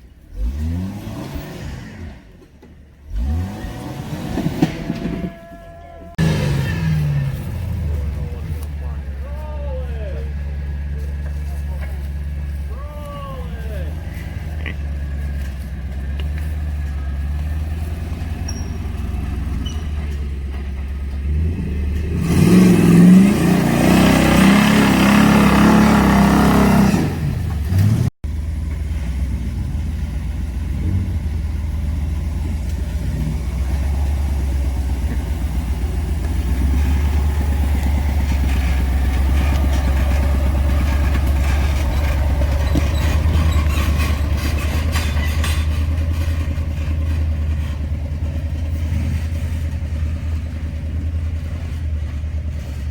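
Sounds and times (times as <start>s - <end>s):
off-road vehicle engine revving: 0.0s - 52.9s.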